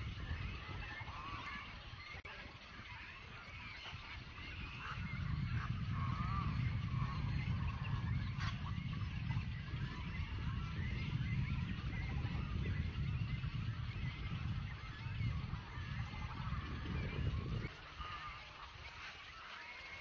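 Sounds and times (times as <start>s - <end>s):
waterbirds squawking: 0.0s - 20.0s.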